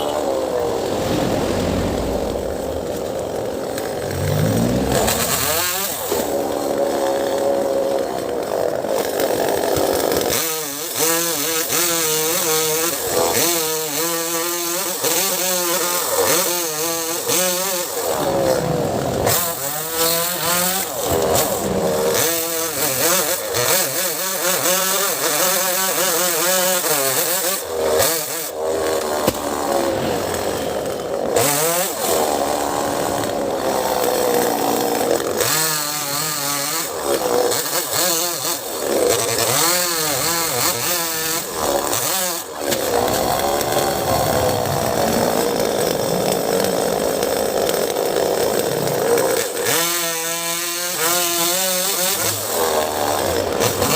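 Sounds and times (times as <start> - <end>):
chainsaw revving cutting wood: 0.0 - 53.9.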